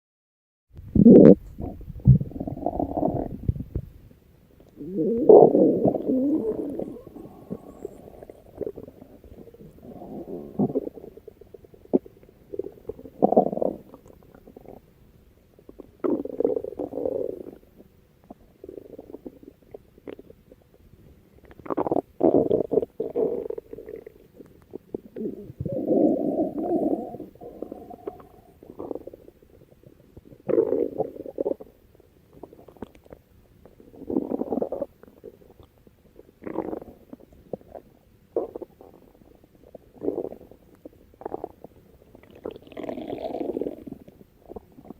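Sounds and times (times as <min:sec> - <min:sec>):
stomach growling: 0:00.9 - 0:03.9, 0:04.6 - 0:14.9, 0:15.6 - 0:20.8, 0:21.4 - 0:44.9.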